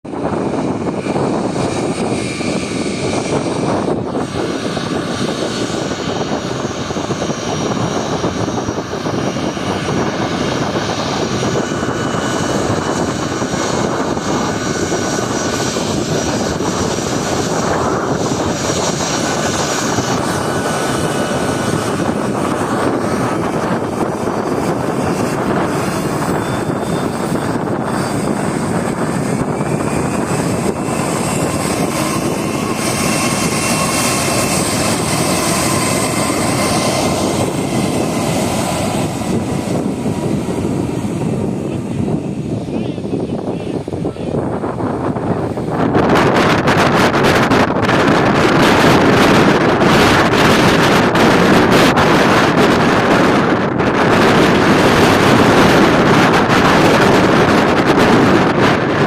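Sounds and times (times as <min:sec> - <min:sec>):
high jet whine: 0:00.0 - 0:59.0
jet engines roaring: 0:00.0 - 0:59.0.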